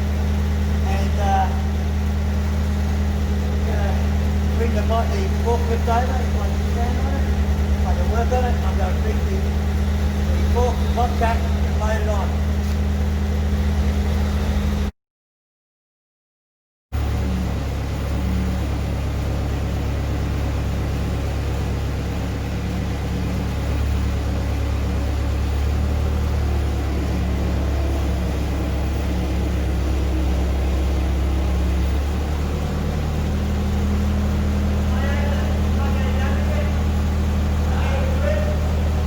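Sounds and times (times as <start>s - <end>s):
engine running steadily: 0.0s - 14.9s, 17.0s - 39.0s.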